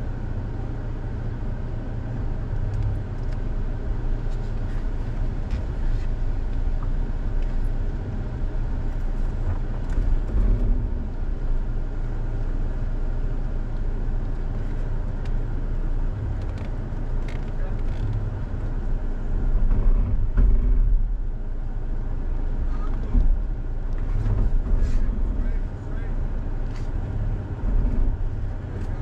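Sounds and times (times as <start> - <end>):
truck engine rumbling at low revs: 0.0 - 29.0.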